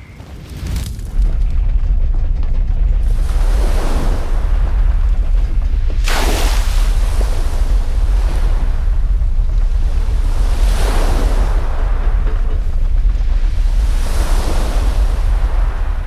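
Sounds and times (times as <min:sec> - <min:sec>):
deep rumble: 0:00.0 - 0:16.0
rushing wind-like roar: 0:00.3 - 0:16.0.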